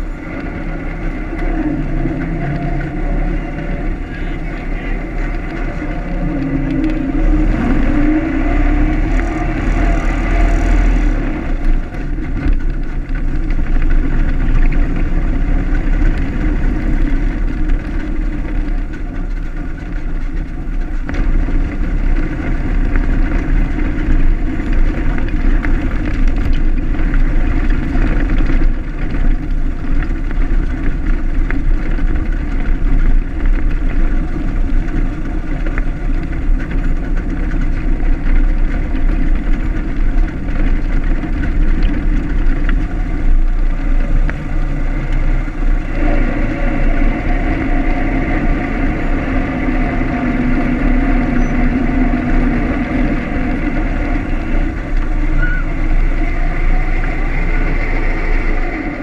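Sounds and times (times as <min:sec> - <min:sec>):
car engine running: 0:00.0 - 0:59.0
wind rumble on microphone: 0:00.0 - 0:59.0.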